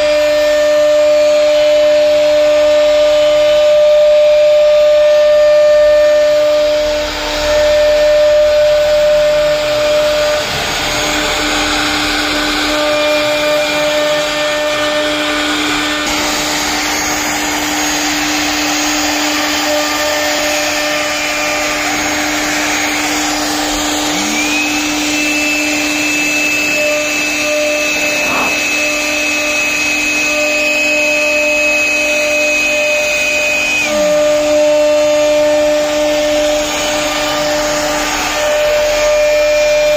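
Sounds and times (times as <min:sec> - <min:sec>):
higher motor whine: 0:00.0 - 0:39.9
router cutting wood: 0:00.0 - 0:39.9.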